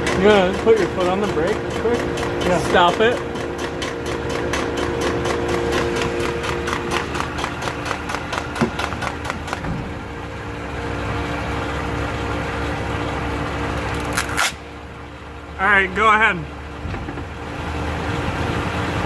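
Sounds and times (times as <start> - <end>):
engine idling: 0.0 - 19.0
rapid drivetrain ticking: 0.0 - 19.0.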